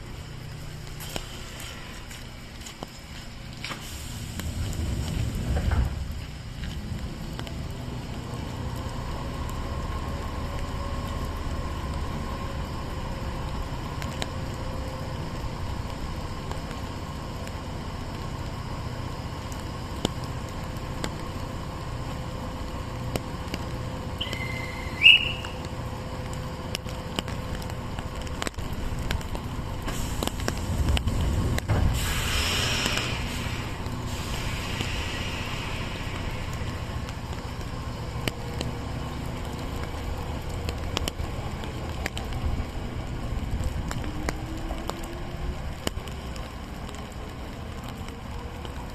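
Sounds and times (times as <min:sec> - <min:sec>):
electric train rumble: 0:00.0 - 0:46.5.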